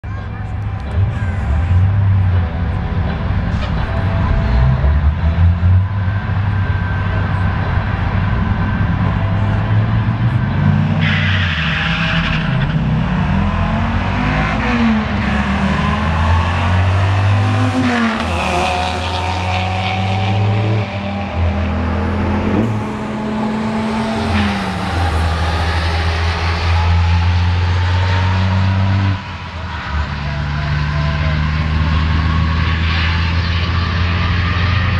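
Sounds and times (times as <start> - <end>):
engines at full throttle: 0.0 - 34.9.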